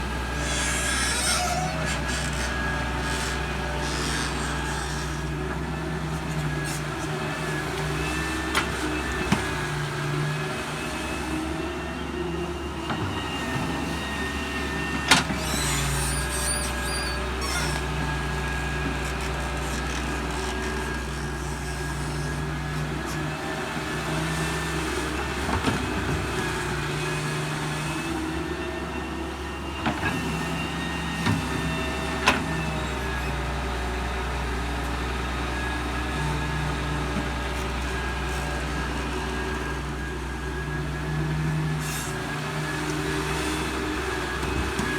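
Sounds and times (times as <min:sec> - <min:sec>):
excavator diesel engine under load: 0:00.0 - 0:44.9.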